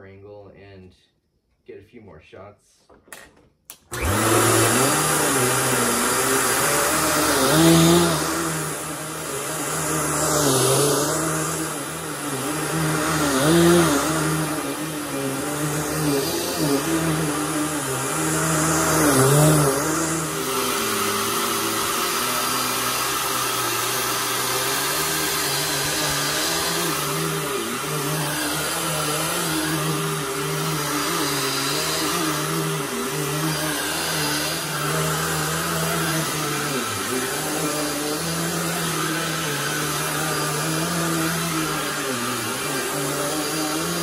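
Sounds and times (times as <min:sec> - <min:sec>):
vacuum cleaner on carpet: 0:03.8 - 0:44.0.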